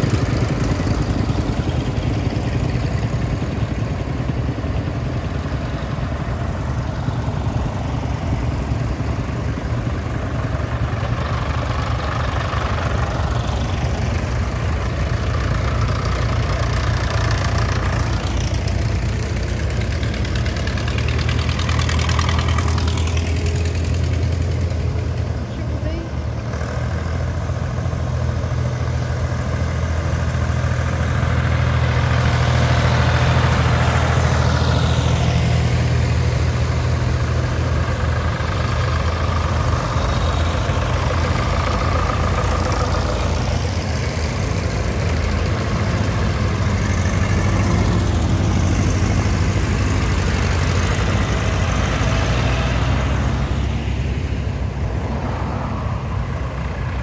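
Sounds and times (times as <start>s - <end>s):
tractors driving past: 0.0s - 57.0s.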